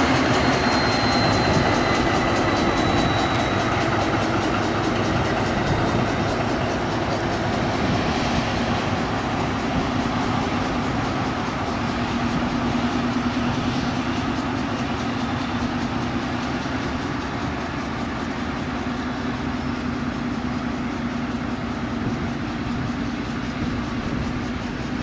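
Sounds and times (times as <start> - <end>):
locomotive engine low hum: 0.0 - 25.0.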